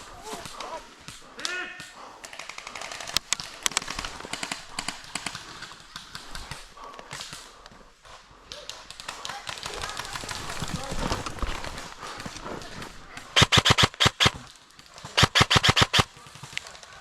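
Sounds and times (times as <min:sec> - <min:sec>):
airsoft guns firing: 0:00.0 - 0:17.0.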